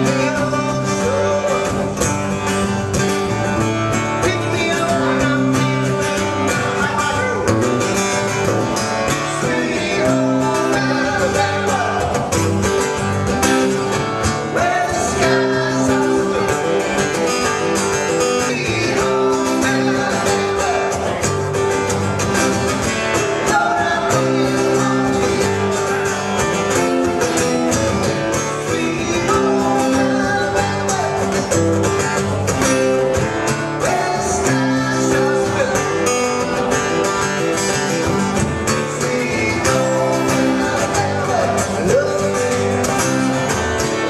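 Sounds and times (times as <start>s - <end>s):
acoustic guitars strummed: 0.0s - 44.0s
man singing: 0.0s - 44.0s.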